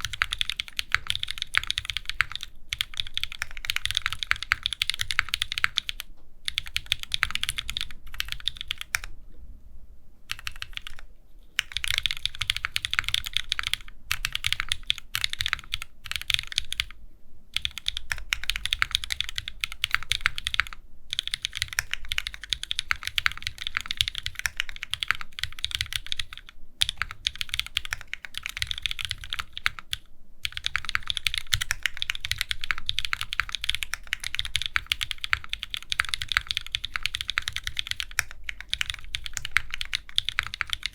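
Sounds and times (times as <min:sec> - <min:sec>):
fast typing on mechanical keyboard: 0:00.0 - 0:09.1, 0:10.3 - 0:11.0, 0:11.6 - 0:17.0, 0:17.6 - 0:40.9.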